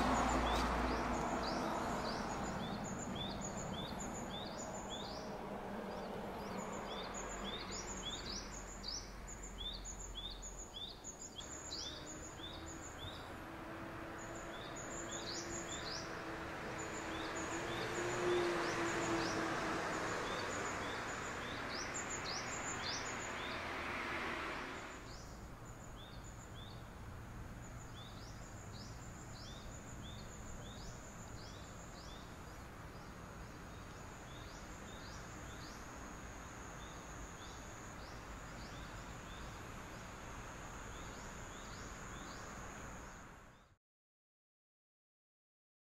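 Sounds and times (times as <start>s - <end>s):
small birds chirping: 0.0s - 23.8s, 24.7s - 43.8s
high insect drone: 0.0s - 43.6s.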